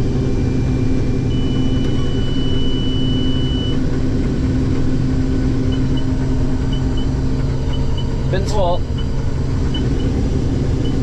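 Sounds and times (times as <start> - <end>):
combine harvester hum: 0.0 - 11.0.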